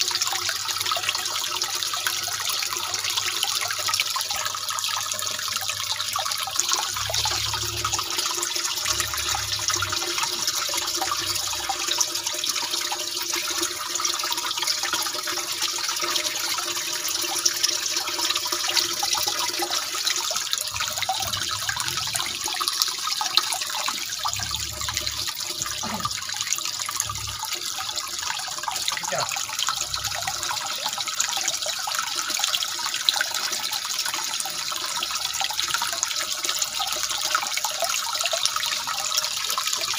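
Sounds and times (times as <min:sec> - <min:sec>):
water trickling into fish tank: 0:00.0 - 0:39.9.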